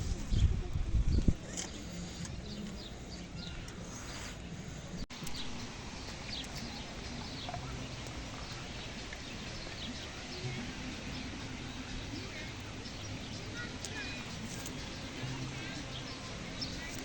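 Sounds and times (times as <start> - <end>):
small birds chirping: 0.0 - 17.0
steady outdoor hiss: 0.0 - 17.0.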